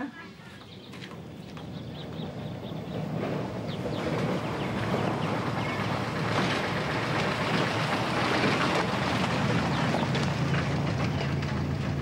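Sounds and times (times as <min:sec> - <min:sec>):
minibus engine idling: 0:00.6 - 0:12.0.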